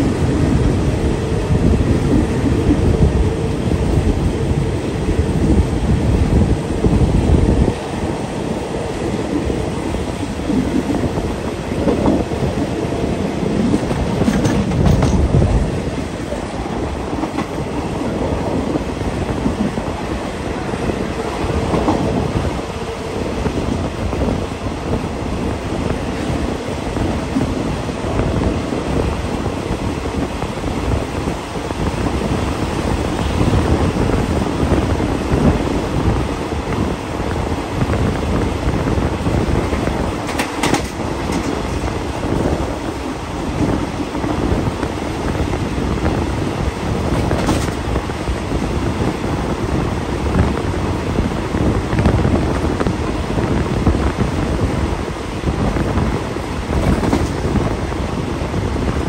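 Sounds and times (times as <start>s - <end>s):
train wheels rolling on rails: 0.0s - 59.0s
wind buffeting microphone: 0.0s - 59.0s.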